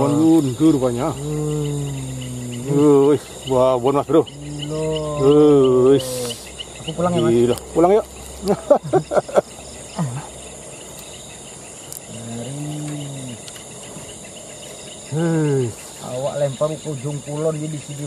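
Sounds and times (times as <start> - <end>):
men's voices: 0.0 - 10.4, 12.0 - 14.1, 14.9 - 18.0
insects droning: 0.0 - 18.0.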